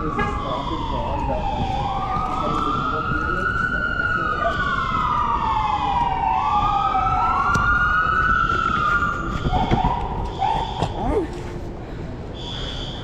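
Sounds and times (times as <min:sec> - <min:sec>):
fire truck siren wailing: 0:00.0 - 0:11.0
street noise: 0:00.0 - 0:13.0.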